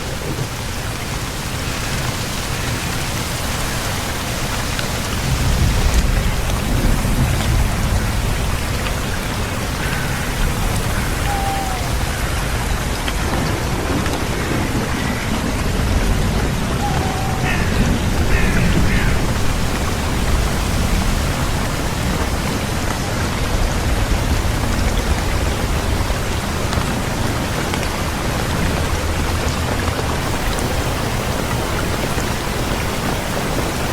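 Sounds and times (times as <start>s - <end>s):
low rolling thunder: 0.0s - 33.9s
rain falling on foliage: 0.0s - 33.9s.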